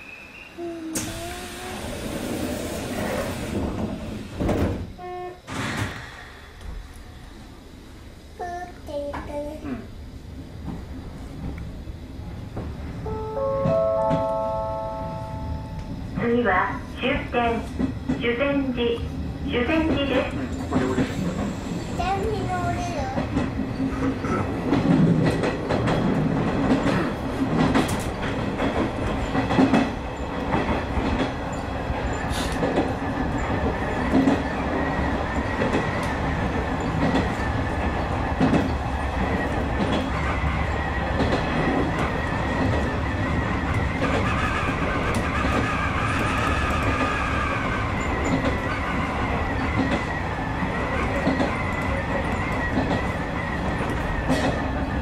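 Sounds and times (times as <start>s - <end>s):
electric train rumble: 0.0s - 55.0s.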